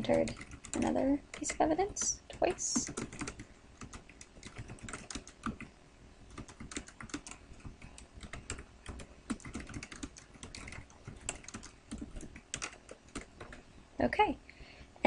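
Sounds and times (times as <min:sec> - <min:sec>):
keyboard typing clicks: 0:00.1 - 0:05.7, 0:06.3 - 0:13.6.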